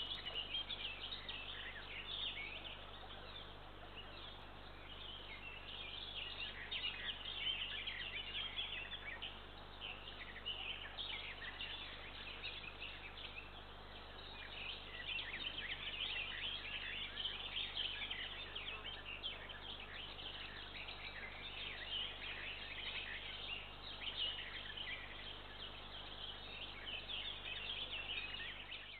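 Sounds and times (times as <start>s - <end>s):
low steady hum: 0.0s - 28.9s
small birds chirping: 0.0s - 28.9s.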